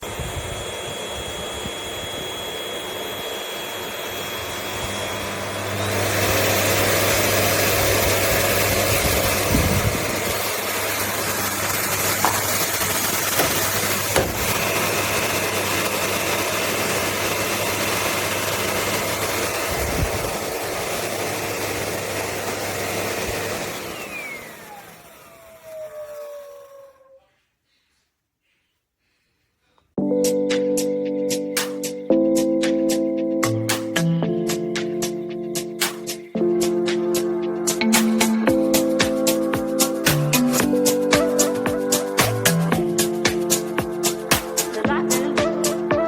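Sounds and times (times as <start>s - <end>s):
vacuum cleaner motor whining: 0.0s - 27.3s, 34.3s - 46.0s.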